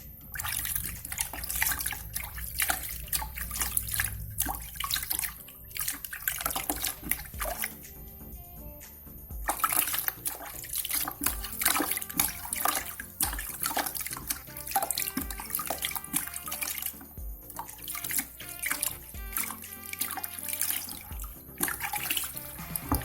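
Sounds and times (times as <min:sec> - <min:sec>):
water splashing: 0:00.0 - 0:23.0.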